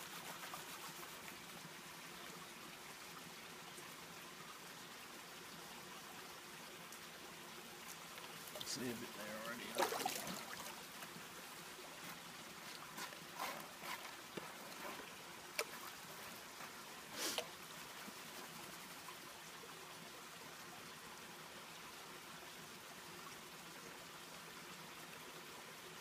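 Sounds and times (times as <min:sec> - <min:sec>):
water trickling: 0:00.2 - 0:25.1.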